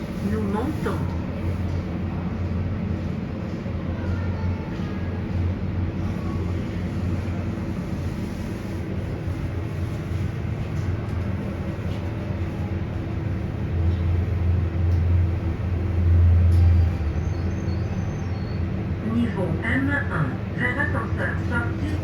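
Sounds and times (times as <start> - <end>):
elevator hum and rumble: 0.0 - 22.0.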